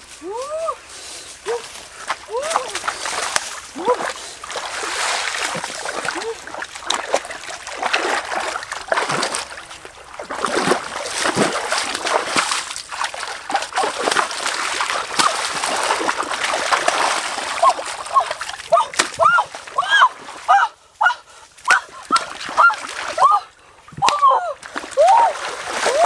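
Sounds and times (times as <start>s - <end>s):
water splashing by hands: 1.4s - 26.0s.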